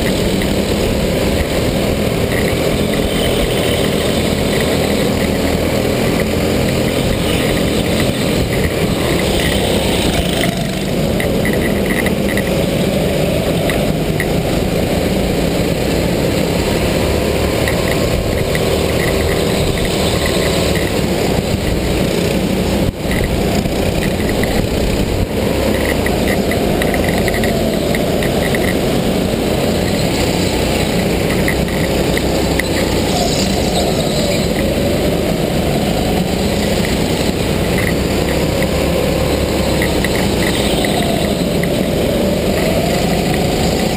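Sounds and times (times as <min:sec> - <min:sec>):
go-kart engine: 0:00.0 - 0:43.9
heavy wind noise: 0:00.0 - 0:43.9.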